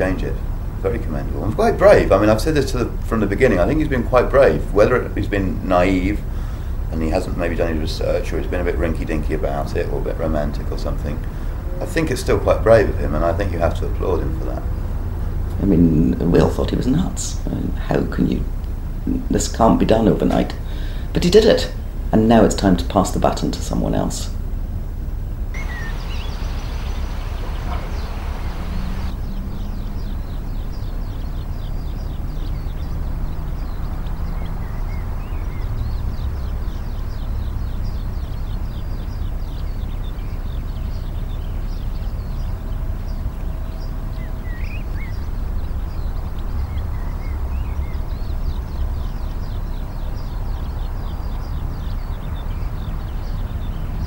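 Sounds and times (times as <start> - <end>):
steady low rumble: 0.0 - 52.6
small birds chirping: 0.0 - 54.0.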